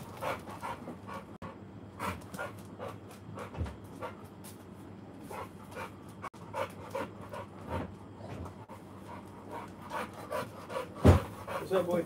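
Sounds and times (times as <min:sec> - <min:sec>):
dog panting: 0:00.0 - 0:04.3, 0:05.2 - 0:12.0.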